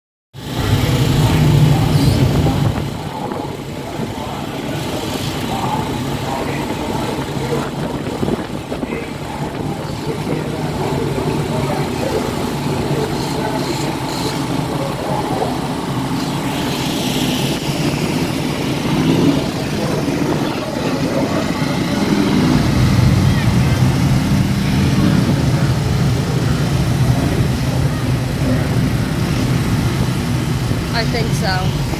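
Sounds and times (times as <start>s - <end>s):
race car engines idling: 0.4s - 31.9s.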